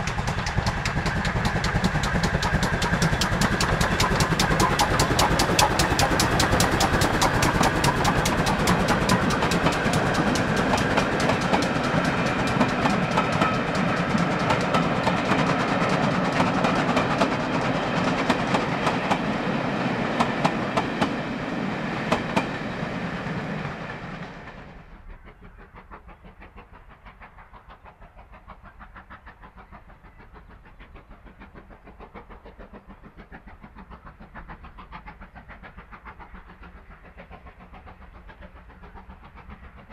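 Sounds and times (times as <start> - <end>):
steam train passing: 0.0 - 39.9.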